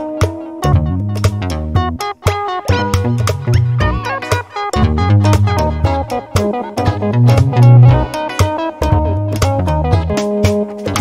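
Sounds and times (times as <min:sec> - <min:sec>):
quick plucked notes over bass: 0:00.2 - 0:11.0.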